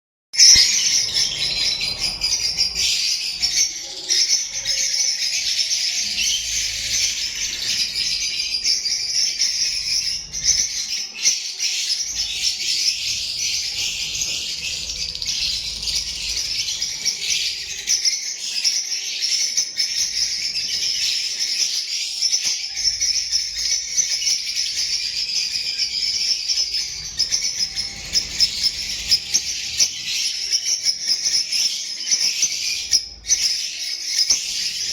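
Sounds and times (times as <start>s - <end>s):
lovebirds chattering and screeching: 0.4s - 34.9s.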